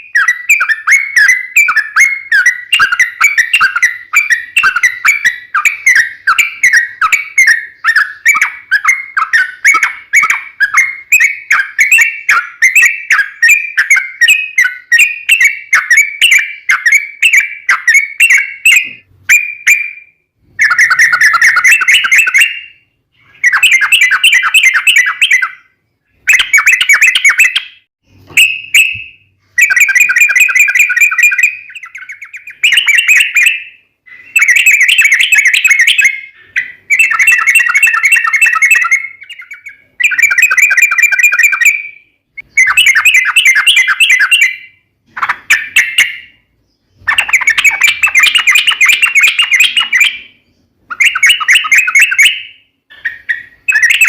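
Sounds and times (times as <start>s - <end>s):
bird singing loudly: 0.0s - 54.0s.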